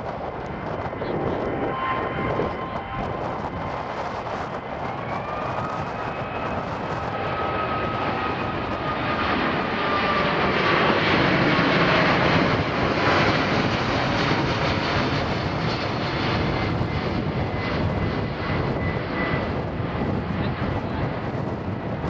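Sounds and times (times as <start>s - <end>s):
jet airliner flying overhead: 0.0s - 22.0s
jet engine whine: 0.0s - 22.0s.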